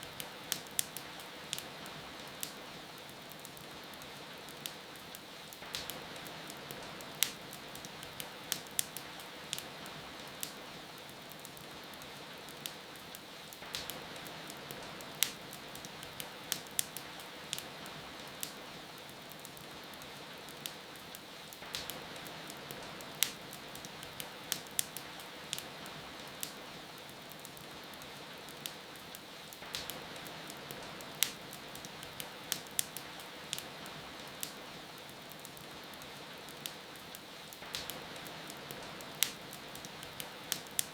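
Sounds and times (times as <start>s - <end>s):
rain hiss: 0.0s - 40.9s
wood fire crackling: 0.0s - 40.9s.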